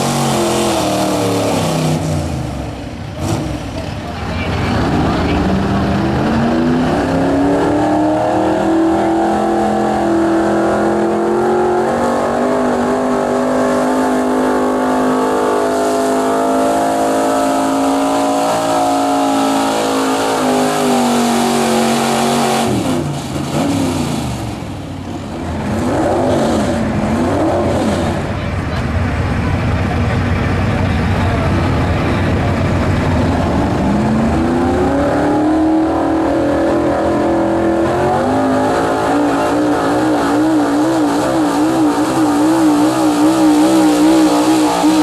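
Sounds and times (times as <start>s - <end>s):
truck engine at full throttle: 0.0s - 45.0s.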